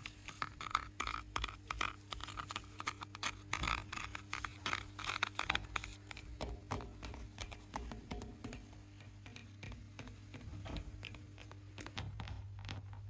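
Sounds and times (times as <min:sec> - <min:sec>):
scraping and crackling surface: 0:00.0 - 0:13.0.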